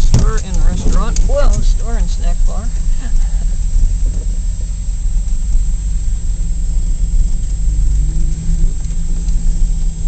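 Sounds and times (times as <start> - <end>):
car engine rumbling: 0.0 - 10.0
road noise inside car: 0.0 - 10.0.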